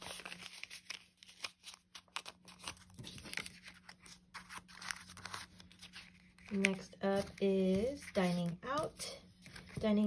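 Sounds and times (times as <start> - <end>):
paper banknotes rustling: 0.0 - 10.0.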